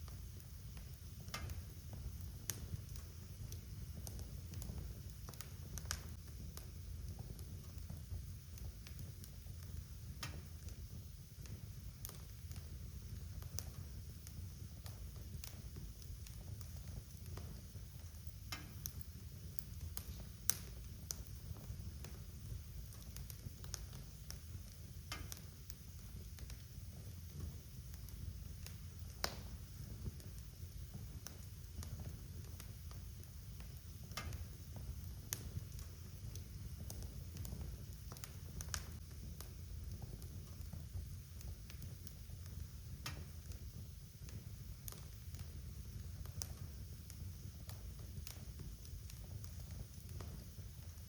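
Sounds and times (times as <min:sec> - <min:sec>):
flames rumbling: 0:00.0 - 0:51.0
wood fire pops and snaps: 0:00.0 - 0:51.0.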